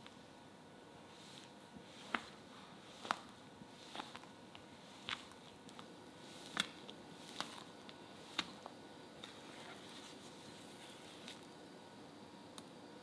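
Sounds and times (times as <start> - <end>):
batter squelching: 1.0 - 11.5.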